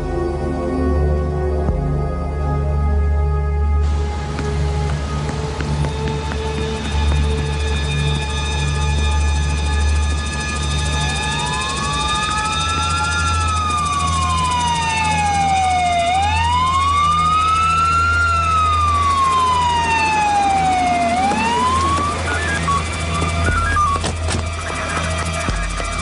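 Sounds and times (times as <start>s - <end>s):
police siren wailing: 3.8s - 26.0s.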